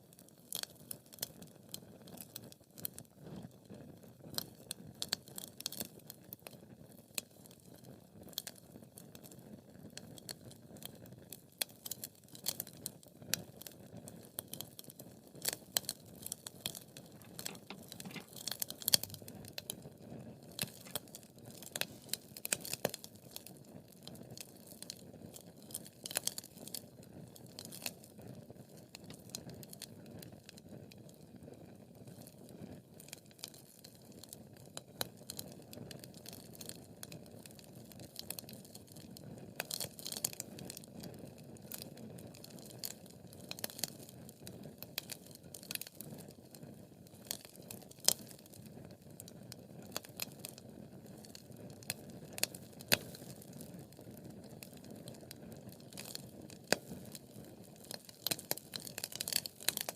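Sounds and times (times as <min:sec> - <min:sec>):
wood fire crackling: 0:00.1 - 0:03.5, 0:11.5 - 0:12.7, 0:13.4 - 0:32.4, 0:33.0 - 0:59.9.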